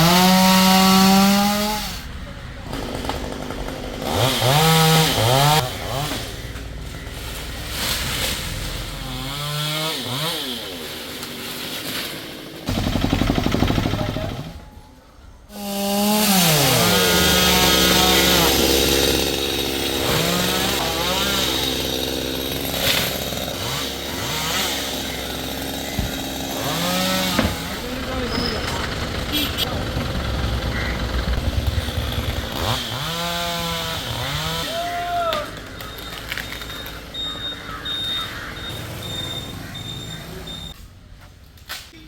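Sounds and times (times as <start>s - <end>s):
chainsaw engine revving: 0.0s - 14.8s, 15.5s - 40.8s.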